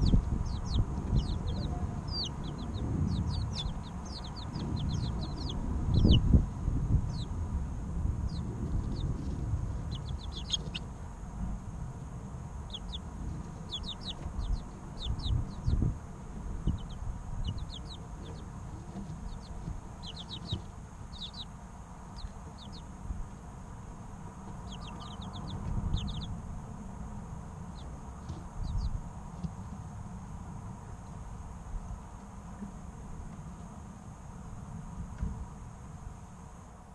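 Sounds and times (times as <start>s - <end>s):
low rumble with thumps: 0.0s - 21.5s, 22.2s - 36.2s
chicks peeping: 0.0s - 29.7s.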